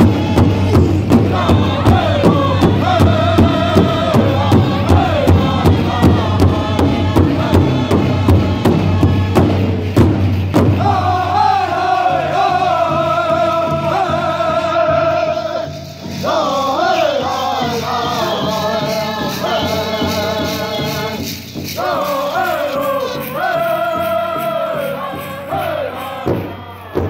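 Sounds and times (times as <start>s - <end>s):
bass drum steady beat: 0.0s - 15.2s, 17.8s - 27.0s
group singing in unison: 0.0s - 27.0s.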